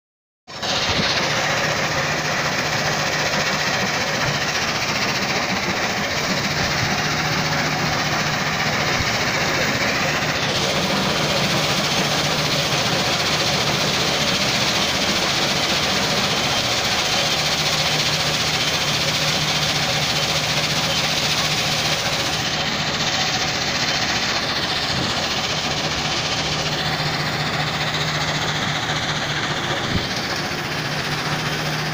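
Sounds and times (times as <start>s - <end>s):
crusher machinery din: 0.6s - 31.9s.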